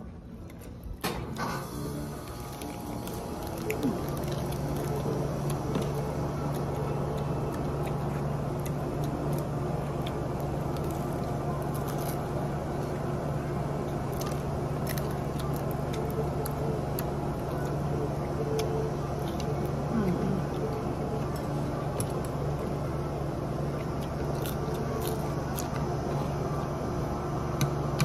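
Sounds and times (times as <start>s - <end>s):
steady low hum: 0.0s - 28.0s
chewing crispy food: 1.6s - 26.9s.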